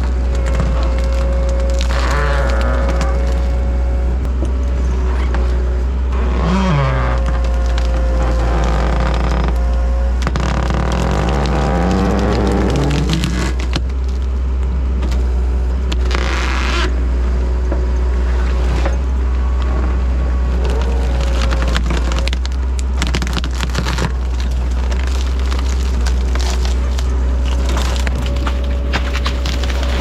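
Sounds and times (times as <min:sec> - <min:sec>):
diesel engine running under load: 0:00.0 - 0:30.0
wood cracking and splintering: 0:00.0 - 0:30.0.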